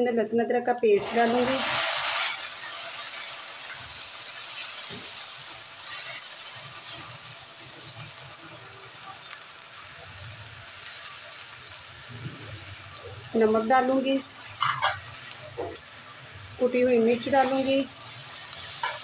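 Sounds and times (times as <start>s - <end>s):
paste sizzling in hot oil: 0.9s - 19.0s.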